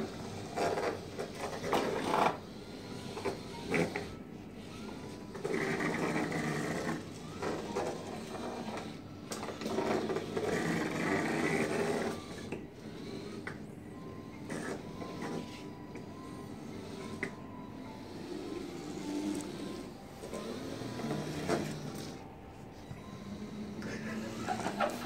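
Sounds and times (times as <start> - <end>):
small electric motors whirring: 0.0 - 22.3, 22.9 - 25.0.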